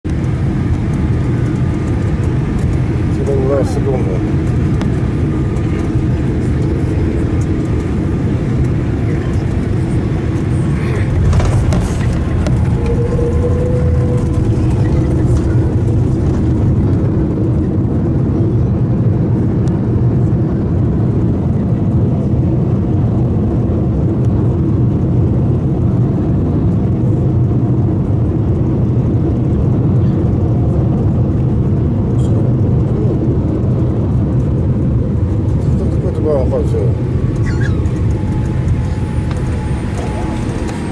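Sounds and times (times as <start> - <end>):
airliner cabin roar: 0.0 - 40.9.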